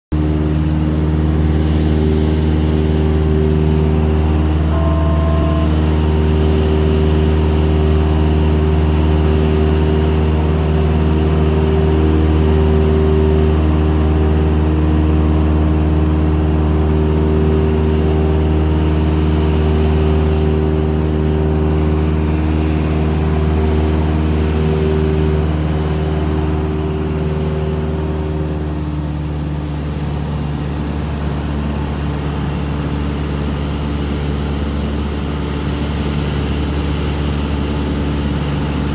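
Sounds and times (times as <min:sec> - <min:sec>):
propeller plane engine droning: 0:00.1 - 0:38.9.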